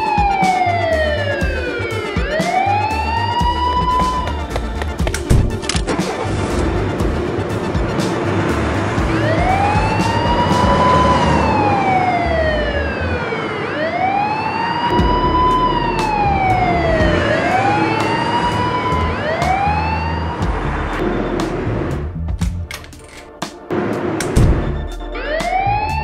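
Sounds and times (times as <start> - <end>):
police siren wailing: 0.0 - 22.1, 24.7 - 26.0.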